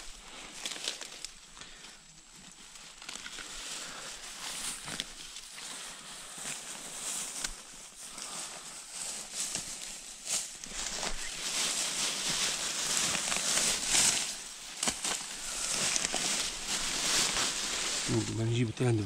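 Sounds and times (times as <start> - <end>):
rustling of dry leaves: 0.0 - 19.0.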